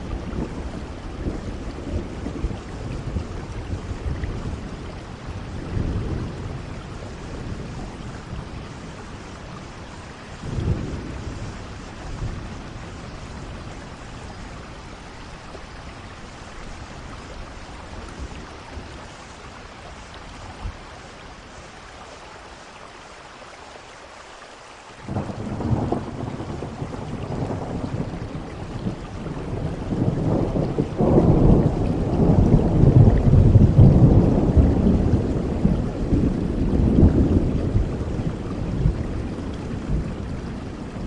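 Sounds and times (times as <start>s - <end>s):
thunder rumbling: 0.0s - 19.2s, 25.0s - 41.0s
steady rain: 0.0s - 41.0s.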